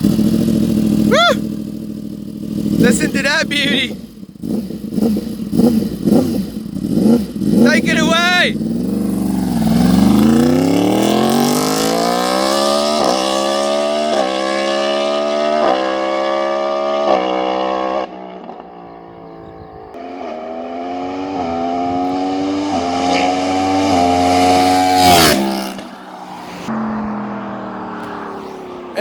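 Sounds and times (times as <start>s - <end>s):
motorcycle engine accelerating: 0.0s - 29.0s
motorcycle passing close by: 4.4s - 7.8s, 8.6s - 29.0s.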